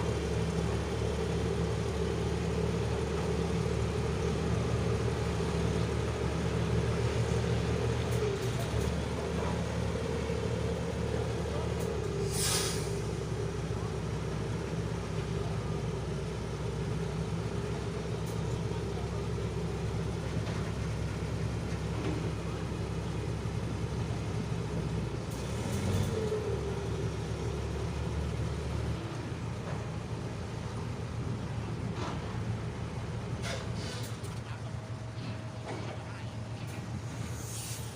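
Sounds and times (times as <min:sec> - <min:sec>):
truck diesel engine running: 0:00.0 - 0:37.9.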